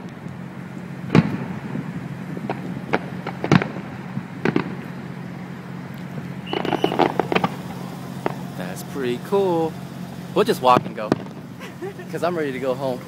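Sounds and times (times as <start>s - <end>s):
steady low hum: 0.0s - 13.0s
firework shells bursting: 1.0s - 12.7s.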